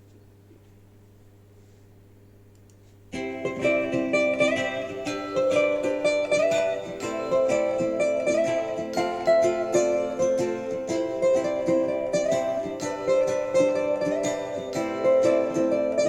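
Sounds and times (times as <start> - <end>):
plucked acoustic guitar: 3.1 - 16.0.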